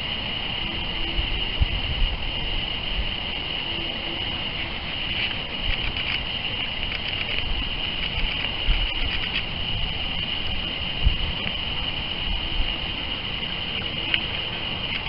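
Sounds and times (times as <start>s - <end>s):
constant rushing hiss: 0.0s - 15.0s.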